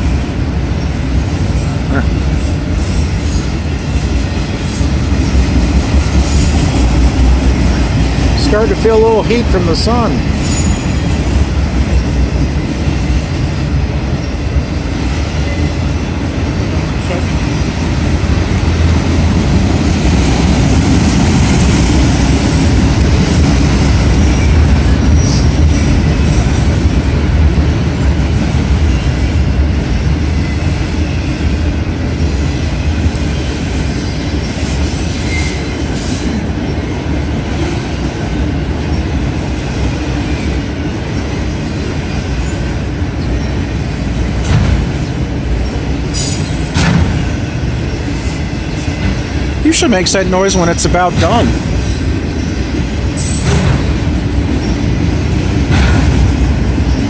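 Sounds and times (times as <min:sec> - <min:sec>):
freight cars rolling on rail: 0:00.0 - 0:57.0.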